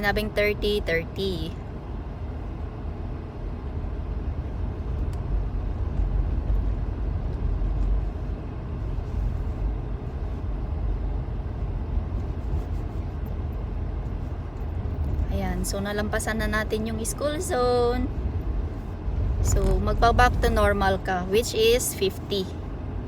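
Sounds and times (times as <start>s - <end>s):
car tyres and engine rumble: 0.0s - 23.0s.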